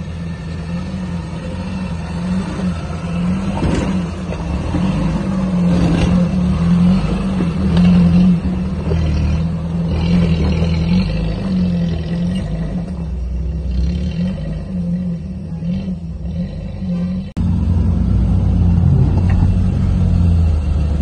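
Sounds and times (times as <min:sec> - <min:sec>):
car engine running steadily: 0:00.0 - 0:21.0.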